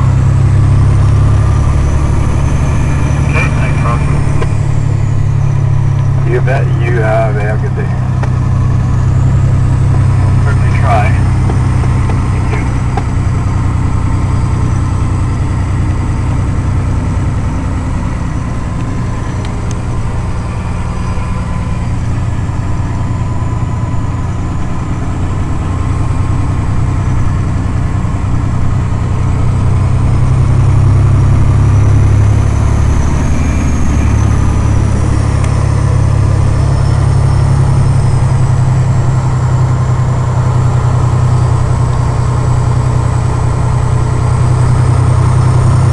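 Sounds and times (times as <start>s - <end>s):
truck diesel engine drone: 0.0s - 45.9s.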